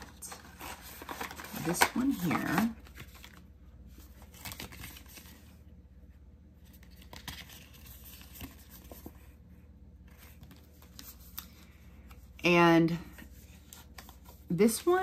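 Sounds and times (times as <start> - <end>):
paper card rustling: 0.0 - 5.6, 6.6 - 9.4, 10.1 - 12.4, 13.1 - 15.0.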